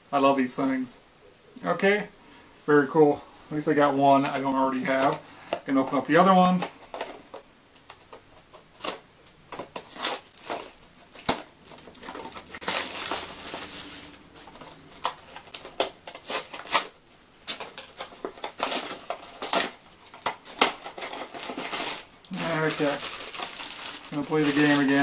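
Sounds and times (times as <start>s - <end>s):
packaging crinkling and rustling: 4.8s - 25.0s.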